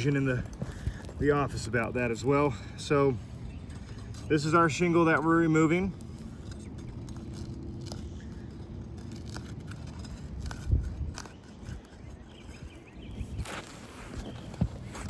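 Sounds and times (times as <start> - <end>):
light clicks and scraping: 0.0 - 15.0.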